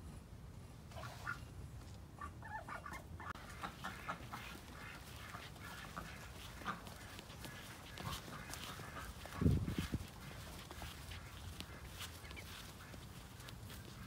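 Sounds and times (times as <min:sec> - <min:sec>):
duck clucking: 0:00.9 - 0:01.5, 0:02.2 - 0:14.0.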